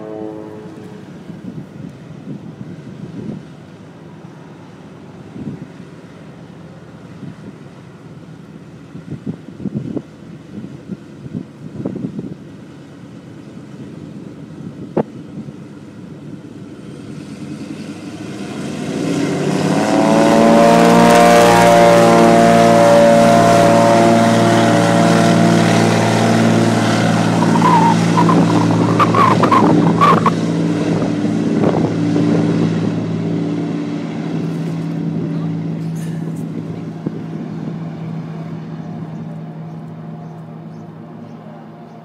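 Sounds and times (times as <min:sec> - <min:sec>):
turboprop engine drone: 0:00.0 - 0:42.0.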